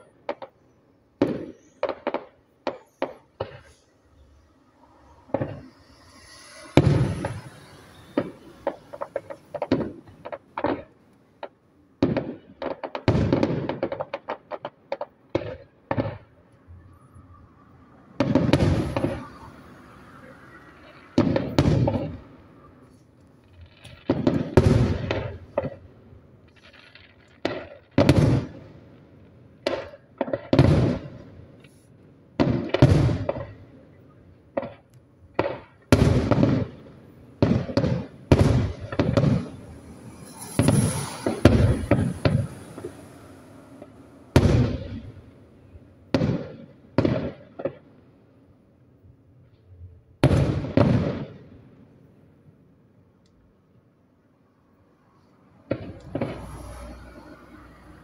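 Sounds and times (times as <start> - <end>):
fireworks booming: 0.0 - 48.1, 50.1 - 52.2, 55.5 - 58.0.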